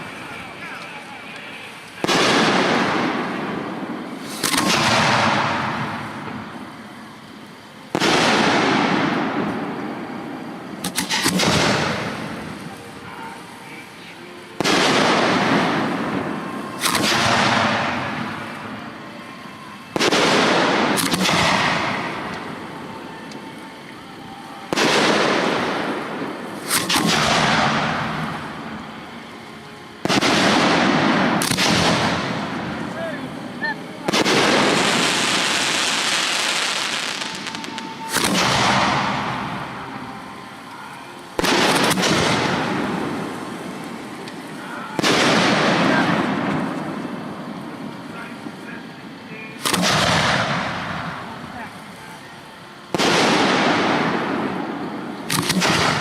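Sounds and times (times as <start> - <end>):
fireworks exploding with rumble: 0.0 - 56.0.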